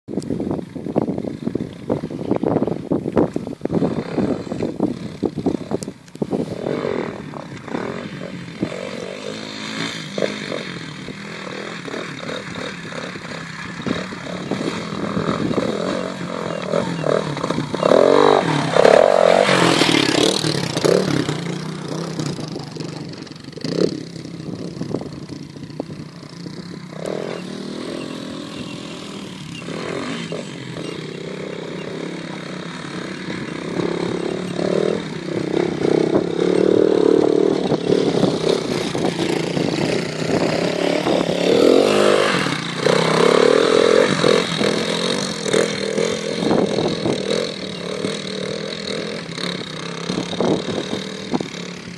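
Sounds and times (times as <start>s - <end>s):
motorcycle engines revving: 0.1s - 51.9s.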